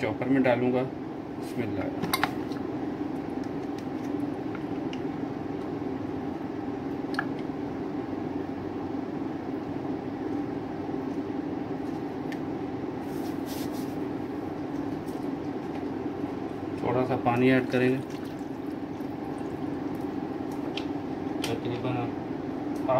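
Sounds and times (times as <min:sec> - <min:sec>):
background hum: 0:00.0 - 0:22.9.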